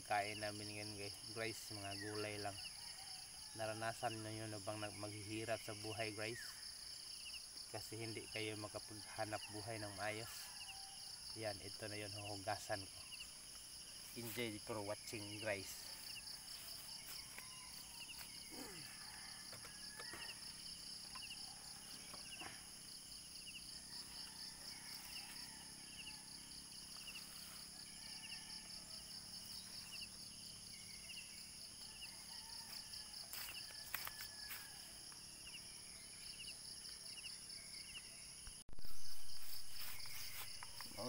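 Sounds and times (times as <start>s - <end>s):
high insect whine: 0.0s - 41.0s
insect chirp: 0.0s - 41.0s
insects trilling: 0.0s - 41.0s.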